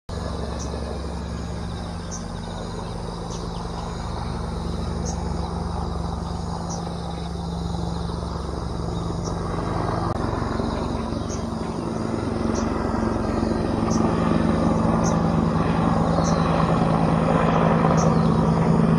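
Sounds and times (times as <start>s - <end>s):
helicopter droning overhead: 0.1s - 18.9s.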